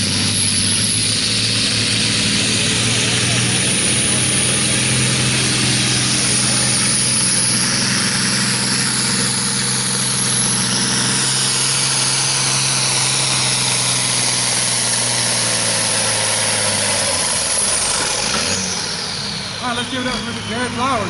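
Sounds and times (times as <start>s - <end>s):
tractor engine running under load: 0.0s - 21.0s.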